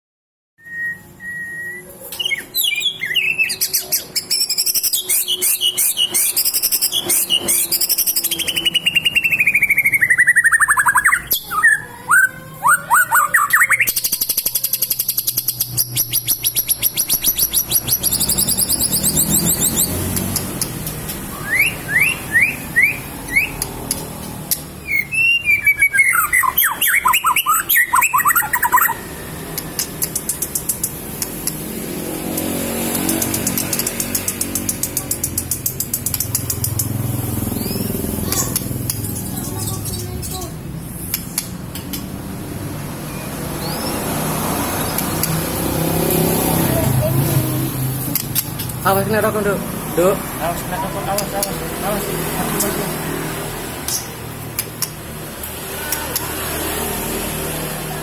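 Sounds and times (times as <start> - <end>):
bird singing varied song: 0.6 - 31.7, 32.3 - 42.2, 42.9 - 53.1.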